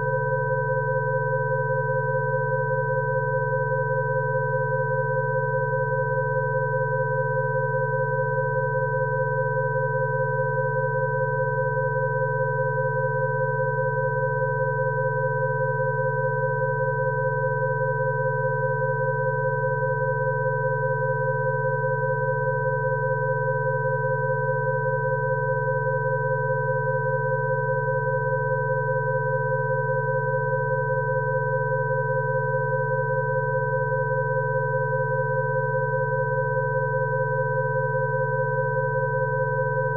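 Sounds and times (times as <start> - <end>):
steady electronic sine tones: 0.0 - 39.9.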